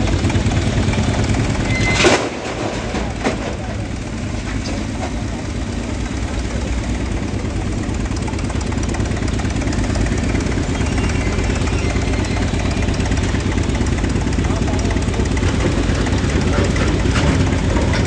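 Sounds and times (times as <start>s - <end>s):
air compressor engine droning: 3.0s - 18.0s.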